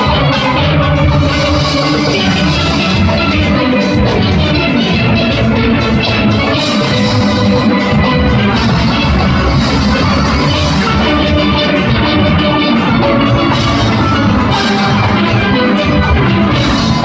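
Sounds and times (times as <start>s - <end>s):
drum kit and percussion: 0.0s - 17.0s
steelpans playing a tune: 0.0s - 17.0s.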